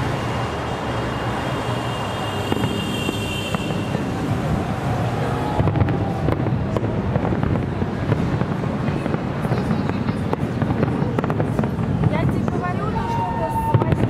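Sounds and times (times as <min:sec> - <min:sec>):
fireworks bursts rumbling: 0:00.0 - 0:14.0
fireworks crackling: 0:00.0 - 0:14.0.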